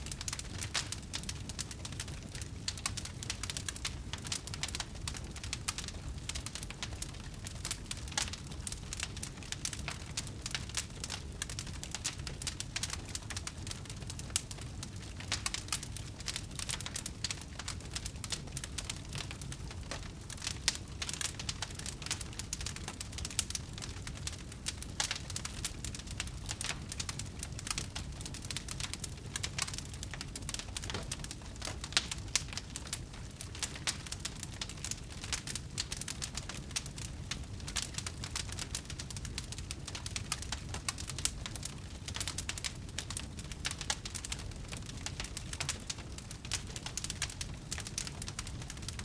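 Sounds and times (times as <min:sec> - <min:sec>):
low rumble of flames: 0:00.0 - 0:49.0
wood fire crackling: 0:00.0 - 0:49.0.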